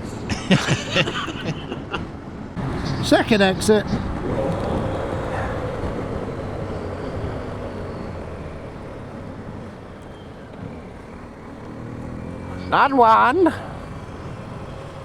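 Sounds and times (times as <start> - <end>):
motorcycle engine: 2.6 - 15.0.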